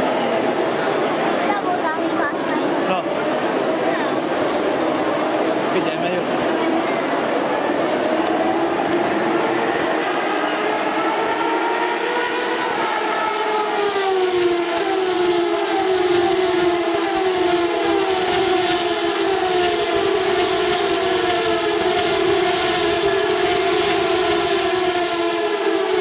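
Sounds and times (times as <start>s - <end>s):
race cars passing at speed: 0.0s - 26.0s.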